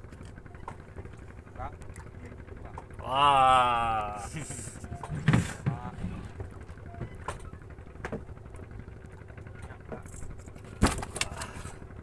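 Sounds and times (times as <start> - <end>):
boat engine hum: 0.0 - 12.0.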